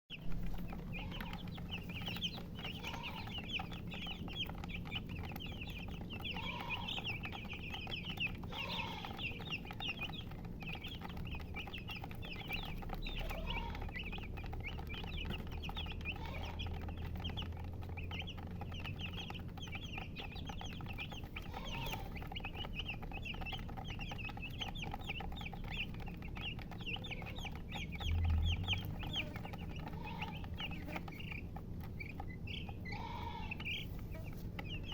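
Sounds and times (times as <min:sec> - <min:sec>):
chicks peeping: 0:00.1 - 0:34.9
hen clucking: 0:00.1 - 0:34.9
steady low hum: 0:00.1 - 0:34.9.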